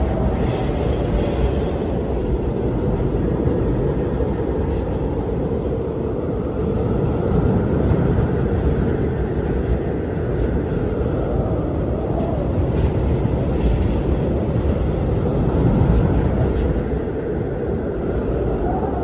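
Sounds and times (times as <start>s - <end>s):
howling wind: 0.0s - 19.0s.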